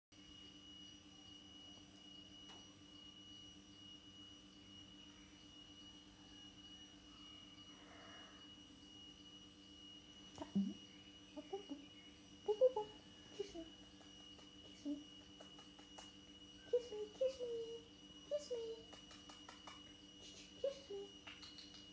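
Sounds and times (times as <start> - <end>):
faint hum: 0.2 - 21.9.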